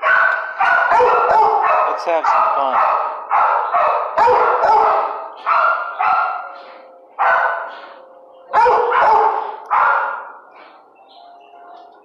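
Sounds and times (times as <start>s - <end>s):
dog barking loudly: 0.0s - 7.9s, 8.5s - 10.5s.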